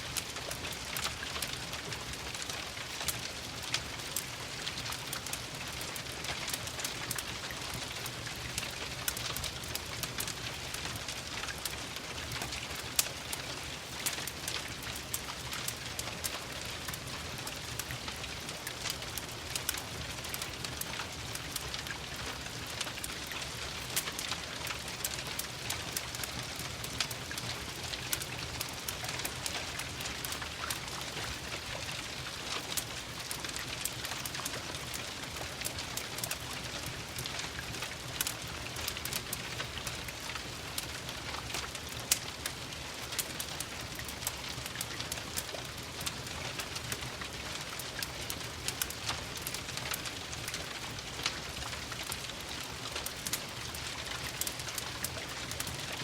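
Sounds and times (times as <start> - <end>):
rain pattering: 0.0 - 56.0
wood fire crackling: 0.0 - 56.0.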